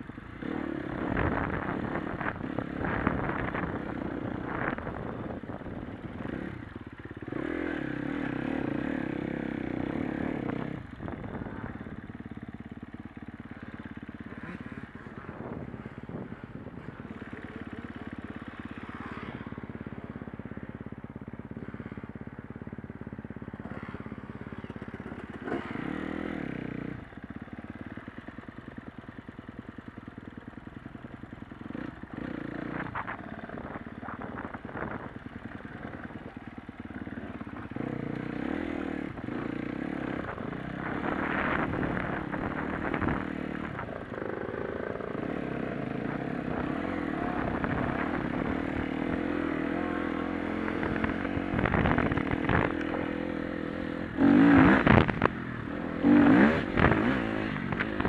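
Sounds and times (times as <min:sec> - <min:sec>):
dirt bike engine revving: 0:00.4 - 0:19.6, 0:21.6 - 0:28.5, 0:31.6 - 0:58.0.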